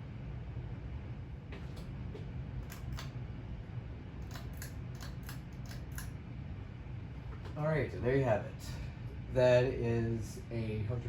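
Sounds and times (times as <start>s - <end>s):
ceiling fan air rush: 0.0s - 11.0s.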